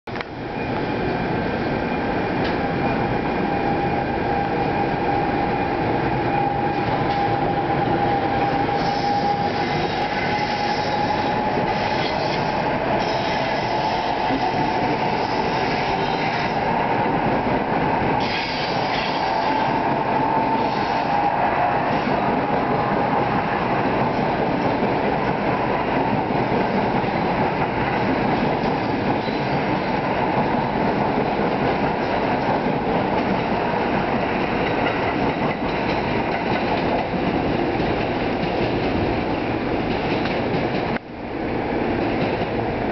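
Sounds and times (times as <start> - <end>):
train wheels rumbling on rails: 0.1 - 42.9.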